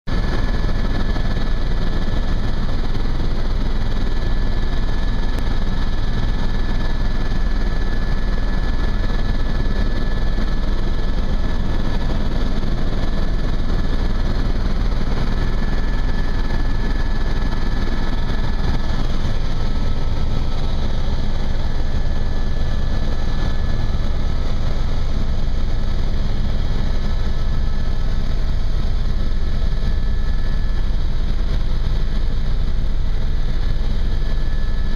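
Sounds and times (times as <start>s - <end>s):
helicopter rotor and engine drone: 0.1s - 34.9s.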